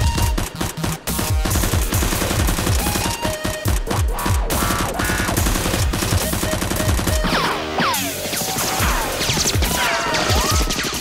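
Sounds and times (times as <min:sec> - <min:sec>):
fast action background music: 0:00.0 - 0:11.0
machine-gun gunfire effects: 0:00.0 - 0:11.0.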